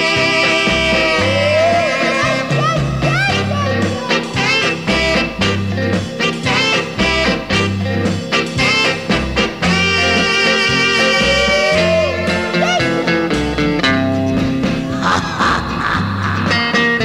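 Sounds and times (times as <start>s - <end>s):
swing music with brass: 0.0s - 17.0s.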